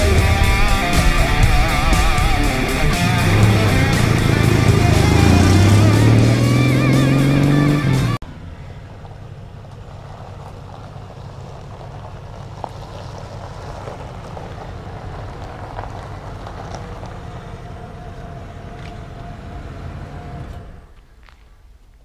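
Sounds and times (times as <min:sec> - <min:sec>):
tyres crunching on gravel: 0:00.0 - 0:07.7, 0:08.4 - 0:22.0
pickup truck engine rumbling: 0:00.0 - 0:21.4.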